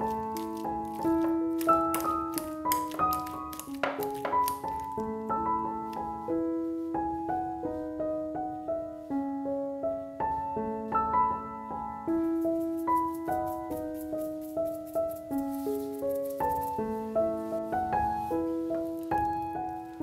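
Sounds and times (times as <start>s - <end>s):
gentle solo piano music: 0.0s - 20.0s.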